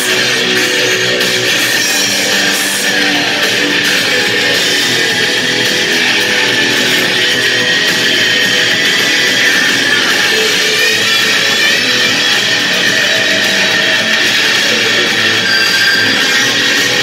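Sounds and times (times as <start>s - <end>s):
electric guitar strumming chords: 0.0s - 17.0s.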